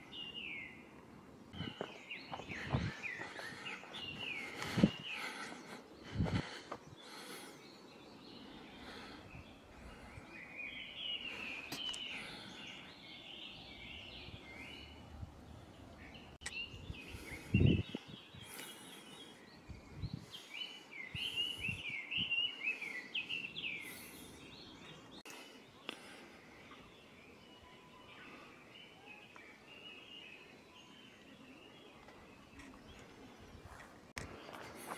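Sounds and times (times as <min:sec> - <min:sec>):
faint outdoor background noise: 0:00.0 - 0:34.9.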